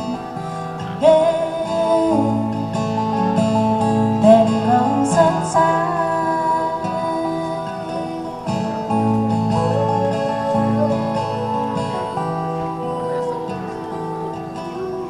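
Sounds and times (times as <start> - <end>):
acoustic guitar strummed: 0.0 - 15.0
woman singing: 0.0 - 15.0.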